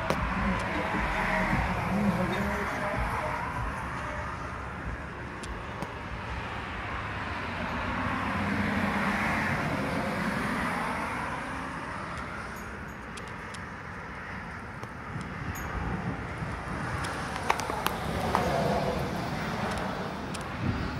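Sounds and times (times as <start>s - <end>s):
car passing on street: 0.0s - 20.9s.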